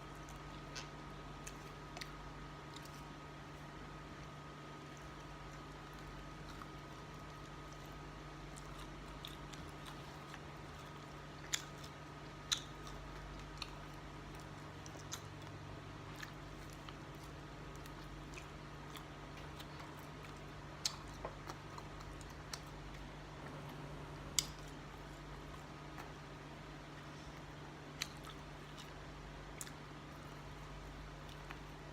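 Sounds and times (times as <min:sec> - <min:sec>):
steady low hum: 0:00.0 - 0:31.9
chewing clicks and smacks: 0:00.1 - 0:23.1, 0:24.3 - 0:26.2, 0:26.8 - 0:31.9.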